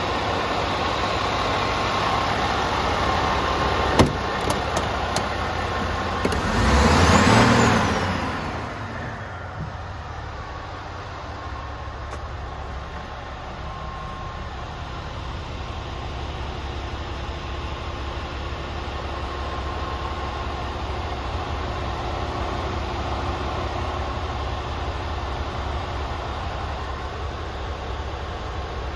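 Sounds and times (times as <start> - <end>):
truck diesel engine idling: 0.0 - 28.9.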